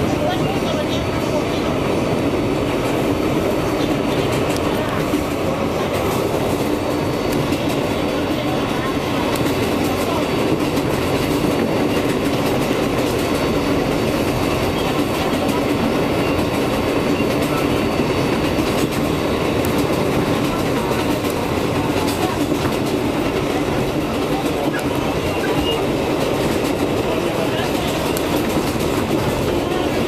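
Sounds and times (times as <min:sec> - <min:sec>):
wheels rumbling on rail: 0:00.0 - 0:30.0.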